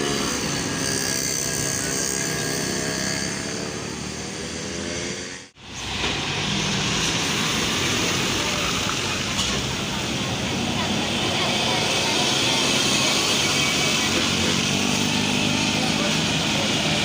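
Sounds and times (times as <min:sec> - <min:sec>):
bus engine drone: 0:00.0 - 0:17.0
tyre and traffic noise: 0:00.0 - 0:17.0.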